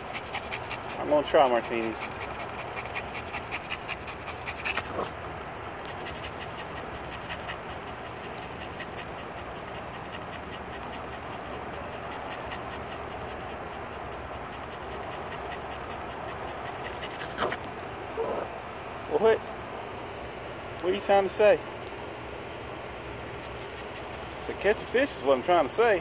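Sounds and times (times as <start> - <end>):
dog panting: 0.0 - 5.2, 5.8 - 19.3, 23.0 - 26.0.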